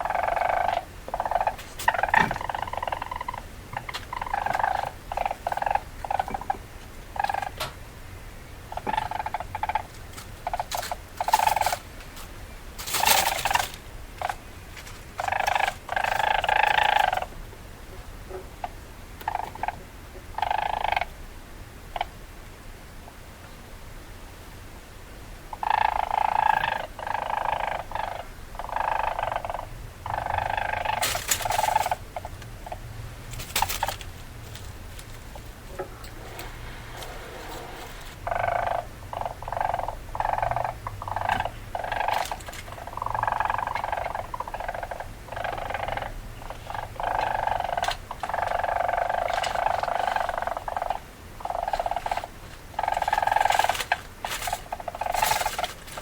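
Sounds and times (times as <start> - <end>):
weasel chattering: 0.0 - 7.6, 8.7 - 11.8, 12.9 - 14.4, 15.2 - 17.4, 18.6 - 21.1, 25.5 - 34.6, 35.2 - 56.0.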